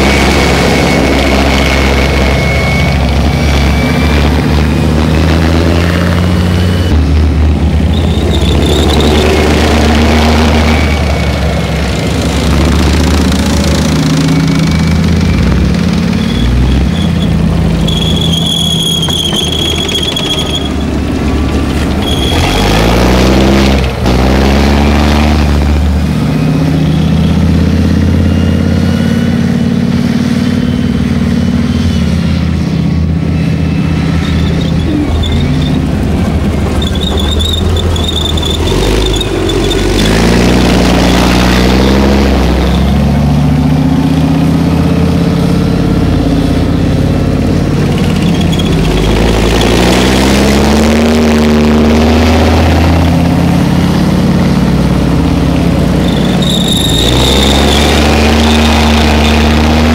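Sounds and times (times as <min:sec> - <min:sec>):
heavy diesel engines: 0:00.0 - 0:59.9
tracks squealing: 0:00.0 - 0:59.9.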